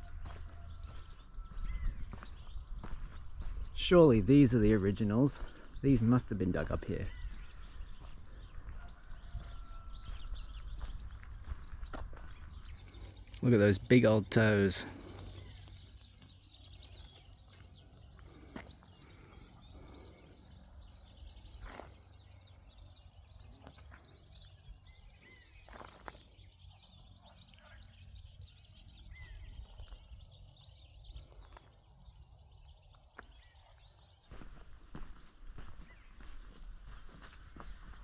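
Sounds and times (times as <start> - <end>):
bird chirps: 0.0 - 38.0.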